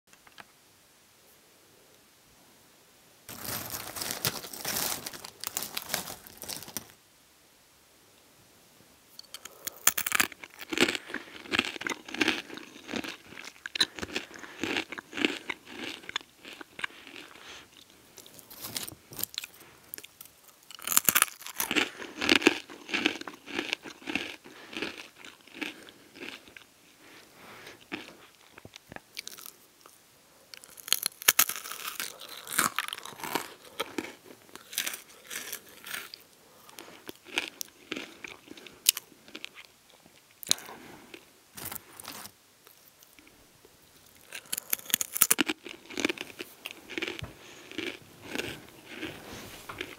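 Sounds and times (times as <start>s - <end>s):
crunching and chewing pretzels: 3.3s - 7.0s, 9.2s - 49.9s.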